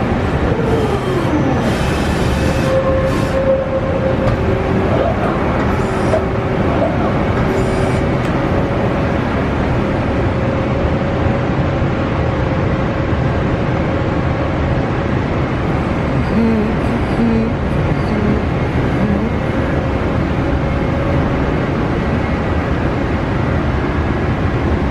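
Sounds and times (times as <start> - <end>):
constant machine whine: 0.0 - 24.9.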